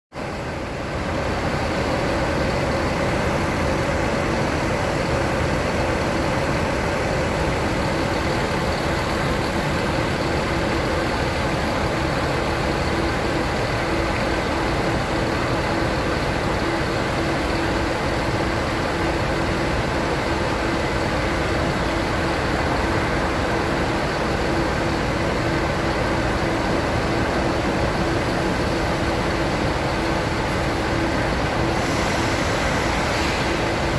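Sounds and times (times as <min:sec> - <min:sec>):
aircraft engines roaring: 0:00.3 - 0:33.9.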